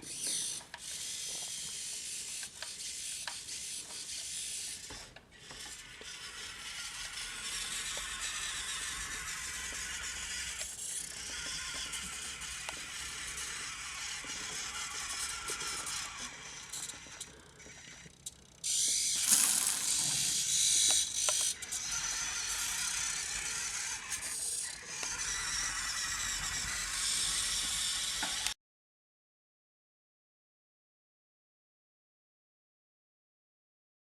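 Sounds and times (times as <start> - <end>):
small electric motor whirring: 0.0 - 28.5.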